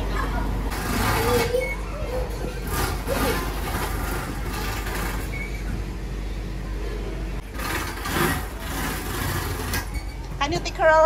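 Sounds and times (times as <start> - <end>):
constant low rumble: 0.0 - 11.0.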